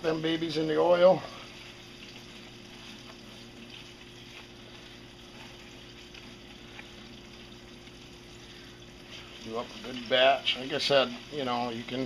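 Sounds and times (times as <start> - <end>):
low steady hum: 0.0 - 12.0
oil bubbling and sizzling in fryer: 0.0 - 12.0.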